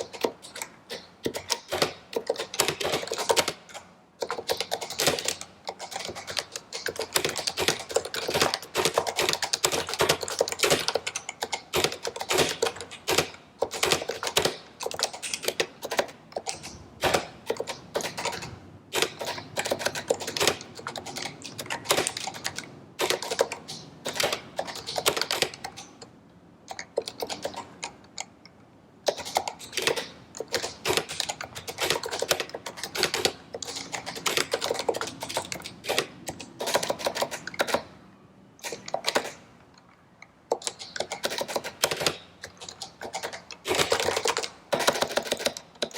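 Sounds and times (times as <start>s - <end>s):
fast keyboard typing: 0.0s - 26.1s, 26.7s - 28.4s, 29.0s - 38.0s, 38.6s - 39.5s, 40.5s - 45.9s.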